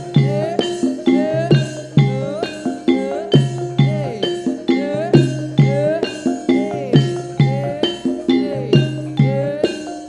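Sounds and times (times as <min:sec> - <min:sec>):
drum strokes: 0:00.0 - 0:10.0
gamelan bronze keys and gongs: 0:00.0 - 0:10.0.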